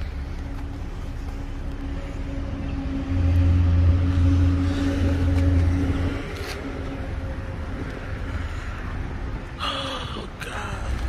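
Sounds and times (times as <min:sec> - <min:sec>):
engine idling exhaust hum: 0:00.0 - 0:10.2.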